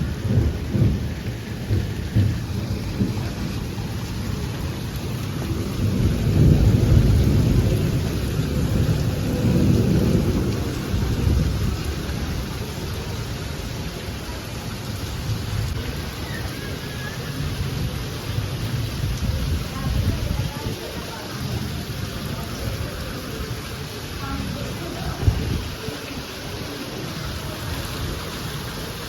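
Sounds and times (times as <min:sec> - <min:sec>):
deep thunder rumbles: 0:00.0 - 0:29.0
heavy rain falling: 0:00.0 - 0:29.0.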